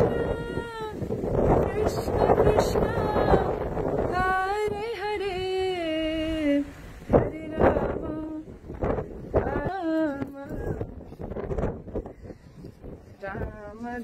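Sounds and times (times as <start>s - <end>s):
woman singing: 0.0s - 11.3s, 13.2s - 14.0s
wind buffeting microphone: 0.0s - 14.0s.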